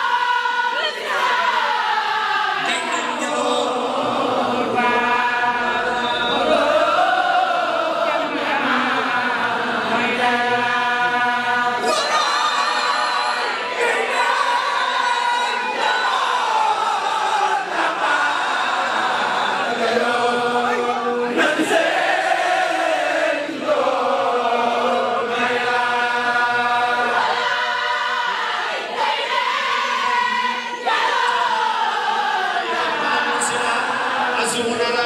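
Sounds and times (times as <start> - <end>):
crowd chanting together: 0.0 - 35.0.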